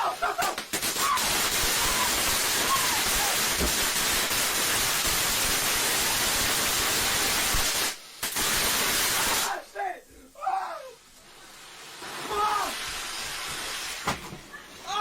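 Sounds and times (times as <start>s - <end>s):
firework spraying sparks with hiss: 0.0s - 9.9s, 10.7s - 15.0s.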